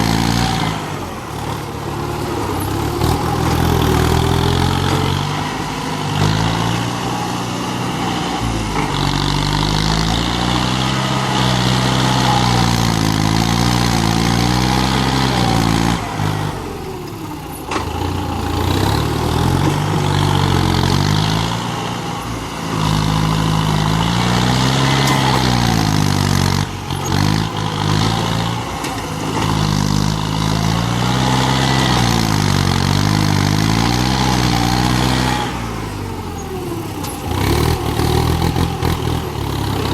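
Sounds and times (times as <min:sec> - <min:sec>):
tractor engine running hard: 0:00.0 - 0:39.9.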